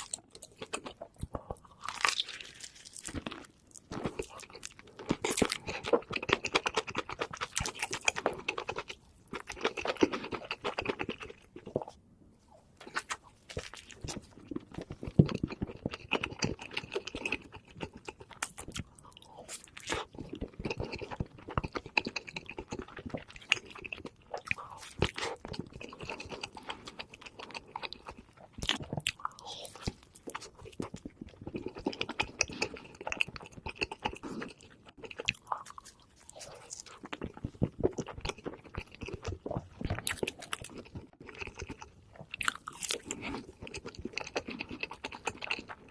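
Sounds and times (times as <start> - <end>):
chewing and crunchy bites: 0.0 - 45.9.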